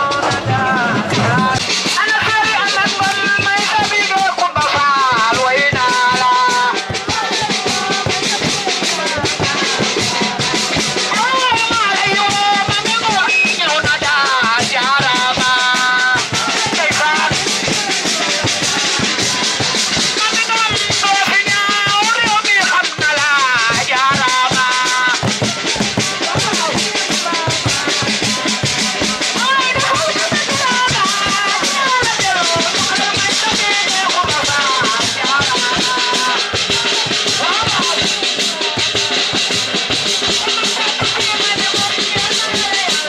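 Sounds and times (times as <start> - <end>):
person singing: 0.0 - 38.8
fast drumming: 0.0 - 43.0.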